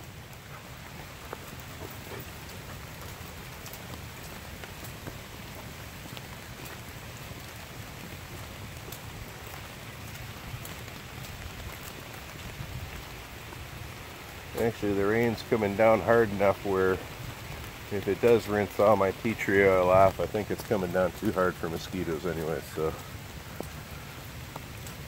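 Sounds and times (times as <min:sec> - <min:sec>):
heavy rain on foliage: 0:00.0 - 0:25.0
sharp raindrop ticks: 0:00.0 - 0:25.0.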